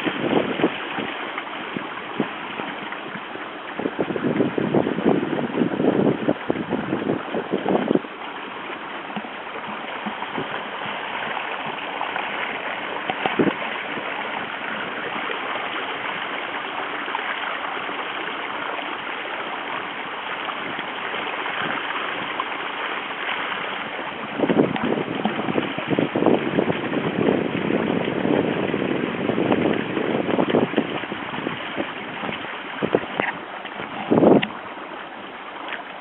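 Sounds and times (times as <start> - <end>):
water splashing along hull: 0.0 - 36.0.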